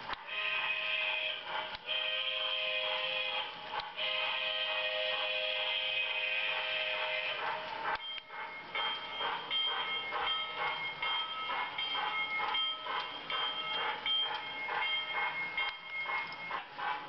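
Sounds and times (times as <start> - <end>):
toy steam locomotive chuffing: 0.0 - 17.0
thin high steady tones: 0.1 - 17.0.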